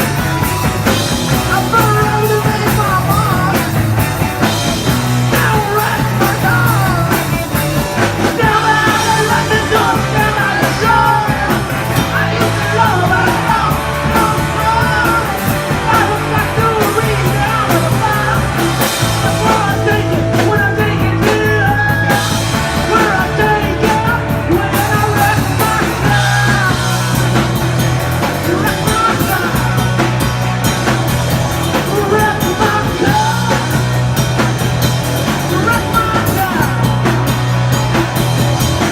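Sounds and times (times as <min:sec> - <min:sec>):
punk rock band playing: 0:00.0 - 0:38.9.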